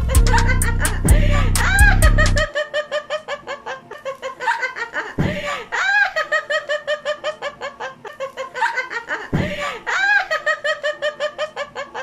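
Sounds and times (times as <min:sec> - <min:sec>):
rhythmic laughter: 0:00.0 - 0:12.0.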